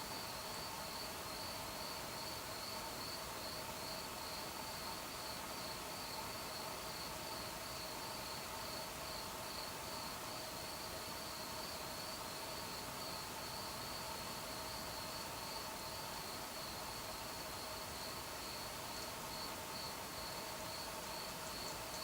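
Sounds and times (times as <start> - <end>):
crickets chirping: 0.1 - 22.0.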